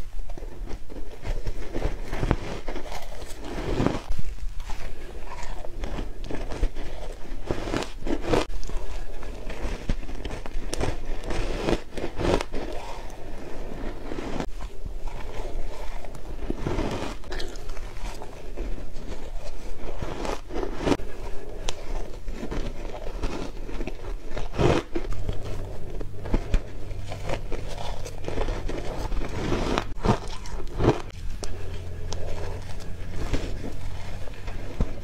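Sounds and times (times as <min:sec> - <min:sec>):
ice crunching between teeth: 0:00.9 - 0:35.0.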